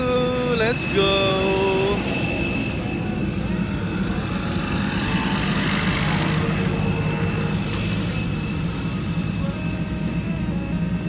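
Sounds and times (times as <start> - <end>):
aircraft engine rumble: 0.0 - 11.0
high engine whine: 0.0 - 11.0
rush of noise: 0.0 - 11.0.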